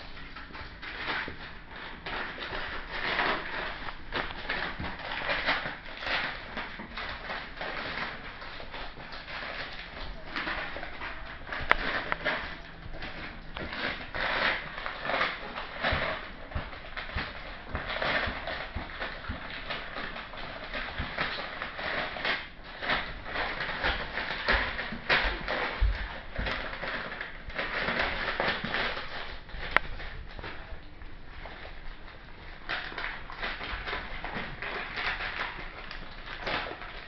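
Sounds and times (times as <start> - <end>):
paper crinkling and tearing: 0.0 - 37.0.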